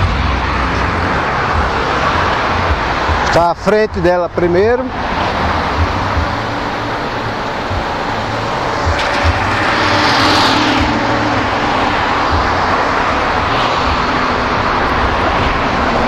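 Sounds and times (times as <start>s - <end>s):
street traffic: 0.0s - 16.0s
vehicle passing: 0.0s - 16.0s.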